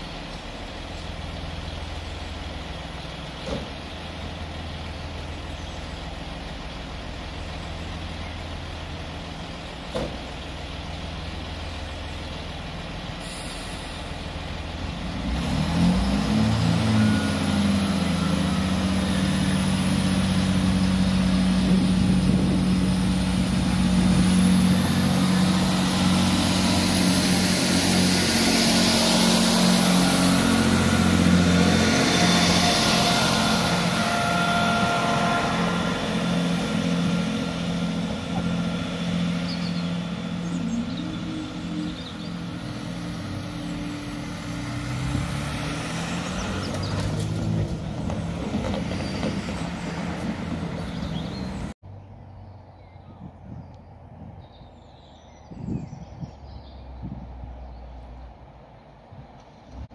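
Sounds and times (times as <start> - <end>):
wheel and rail noise: 0.0 - 51.8
train diesel engine drone: 0.0 - 53.2.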